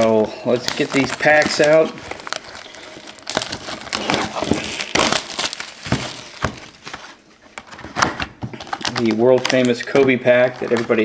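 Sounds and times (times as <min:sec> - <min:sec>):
card wrappers crinkling: 0:00.0 - 0:11.0.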